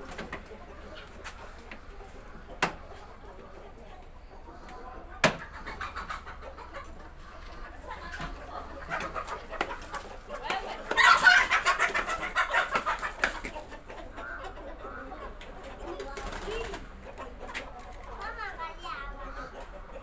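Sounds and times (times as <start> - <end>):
chicken clucking and cackling: 0.0 - 20.0.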